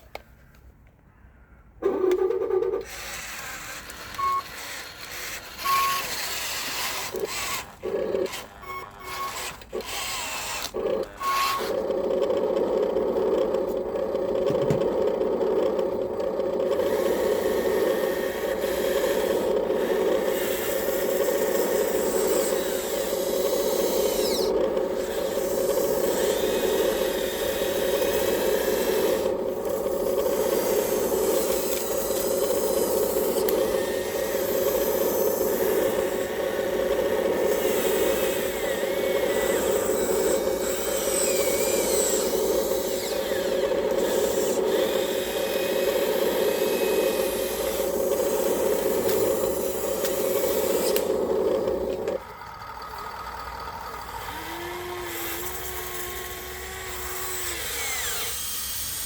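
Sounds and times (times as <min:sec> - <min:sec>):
toy bulldozer motors whirring: 0:01.8 - 0:59.0.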